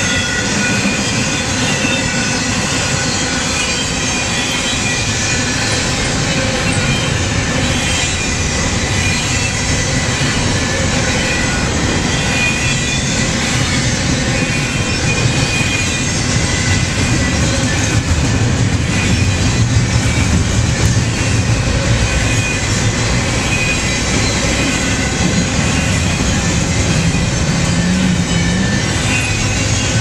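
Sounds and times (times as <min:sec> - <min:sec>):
high wheel squeal: 0:00.0 - 0:30.0
train wheels rumbling on rail: 0:00.0 - 0:30.0.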